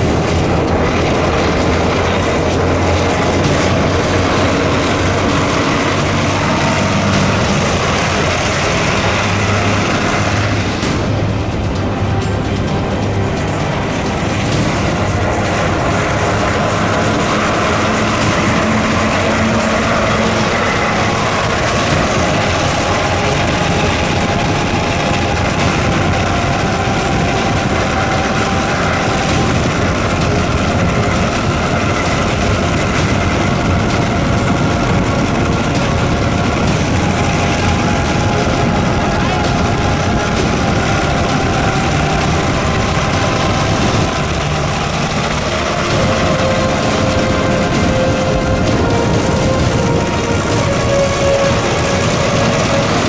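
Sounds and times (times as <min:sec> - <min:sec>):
heavy vehicle engine running: 0:00.0 - 0:53.0.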